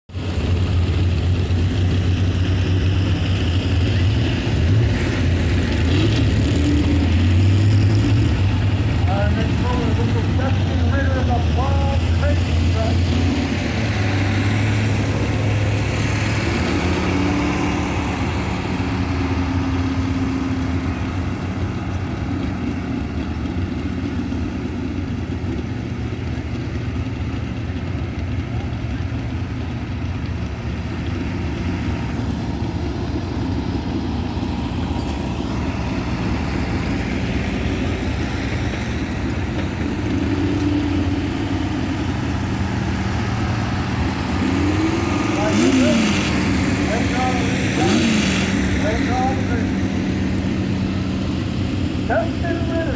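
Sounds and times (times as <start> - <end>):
truck engine idling: 0.1 - 52.9.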